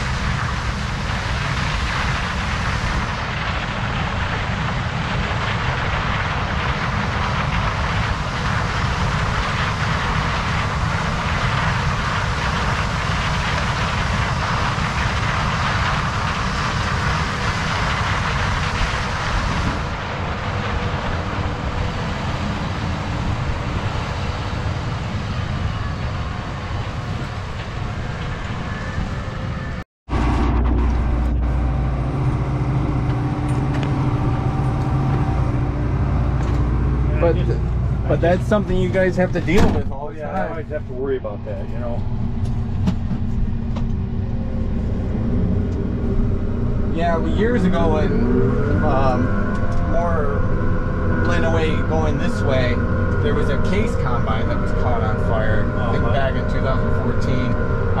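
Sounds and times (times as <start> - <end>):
combine harvester low drone: 0.0 - 58.0
steady rushing noise: 0.0 - 58.0.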